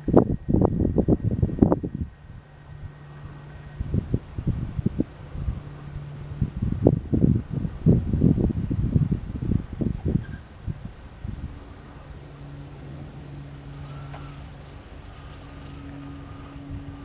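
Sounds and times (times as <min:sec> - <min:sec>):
low steady hum: 0:00.0 - 0:17.0
wind buffeting microphone: 0:00.0 - 0:17.0
insects trilling: 0:00.1 - 0:17.0.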